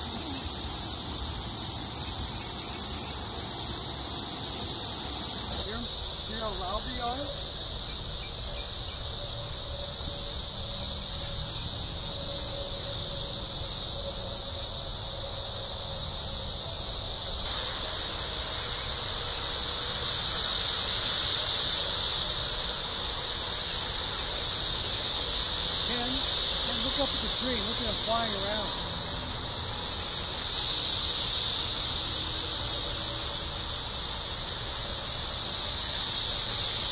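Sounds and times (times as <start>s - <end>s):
cicadas chorus: 0.0s - 36.9s.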